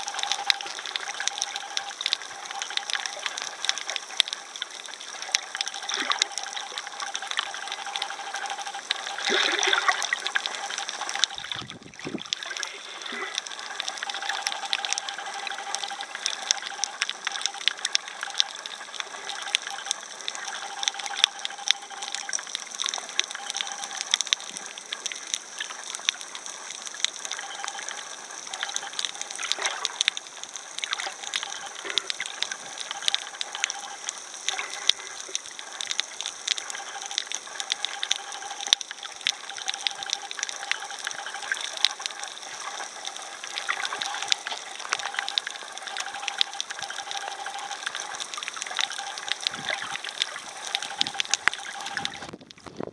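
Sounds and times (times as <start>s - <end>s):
crackling clicks: 0.0s - 52.9s.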